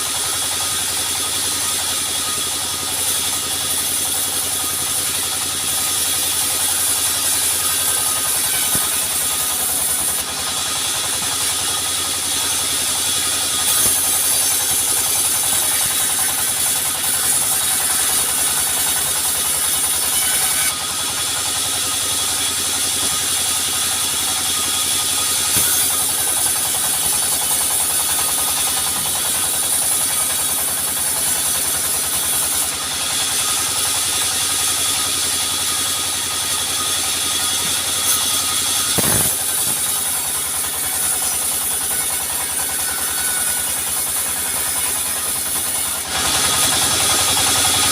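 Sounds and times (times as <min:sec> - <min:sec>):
high-pitched machine noise: 0:00.0 - 0:47.9
sawmill machinery running: 0:00.0 - 0:47.9.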